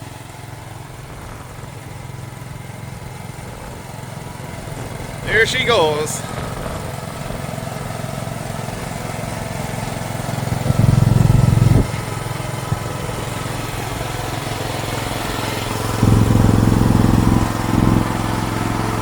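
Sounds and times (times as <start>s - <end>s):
small excavator engine running: 0.0s - 19.0s.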